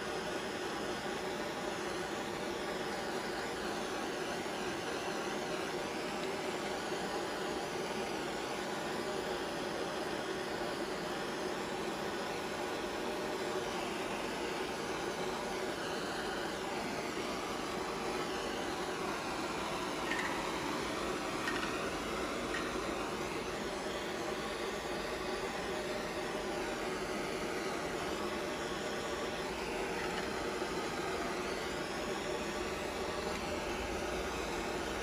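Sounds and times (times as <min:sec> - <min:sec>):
propane torch hissing: 0:00.6 - 0:35.0.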